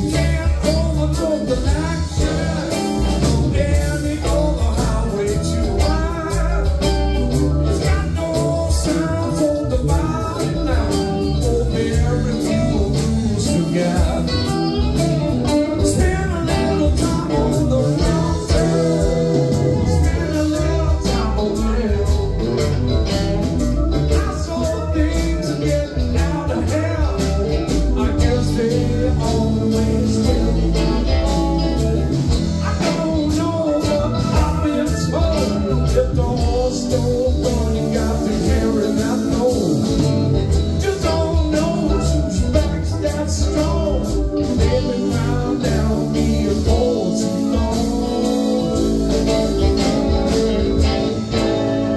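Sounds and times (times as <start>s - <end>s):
bass guitar: 0.0s - 51.9s
drums: 0.0s - 51.9s
electric guitars: 0.0s - 51.9s
keyboards: 0.0s - 51.9s
person singing: 0.0s - 51.9s.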